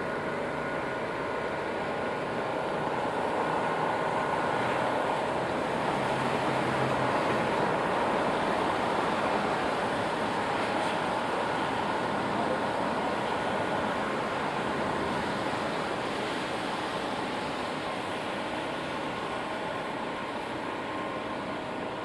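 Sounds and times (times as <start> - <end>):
low engine hum: 0.0 - 22.0
tyres hissing on wet road: 0.0 - 22.0.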